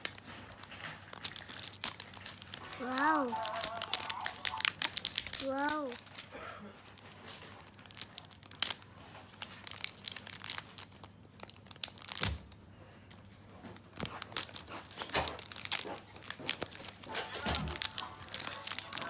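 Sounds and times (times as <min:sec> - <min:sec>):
plastic packaging crinkling and tearing: 0:00.0 - 0:19.0.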